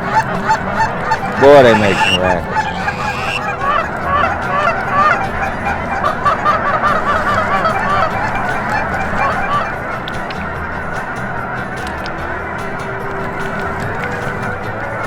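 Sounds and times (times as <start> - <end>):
flock of geese honking: 0.0 - 15.0.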